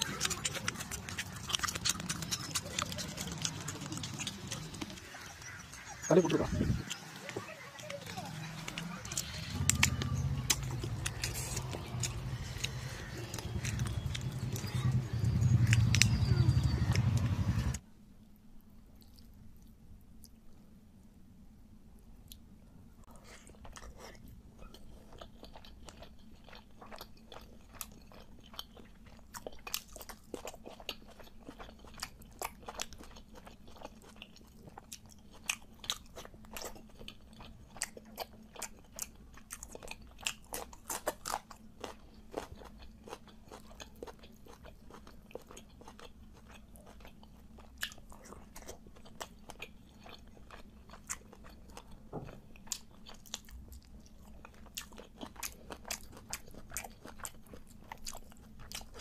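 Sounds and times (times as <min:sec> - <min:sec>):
chewing crunchy fried fish: 0:00.0 - 0:17.8, 0:23.1 - 0:59.0.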